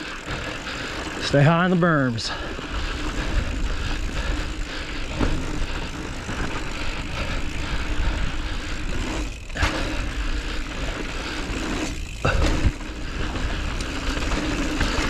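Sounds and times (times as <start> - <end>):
tyres crunching over dirt: 0.0 - 15.0
bike knocks and rattles: 2.3 - 15.0.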